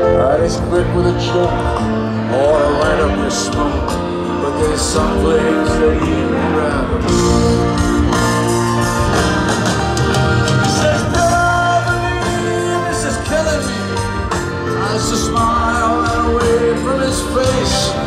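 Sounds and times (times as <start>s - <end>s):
person singing: 0.0s - 7.6s, 10.6s - 18.0s
live rock band with piano: 0.0s - 18.0s
stadium crowd: 0.0s - 18.0s.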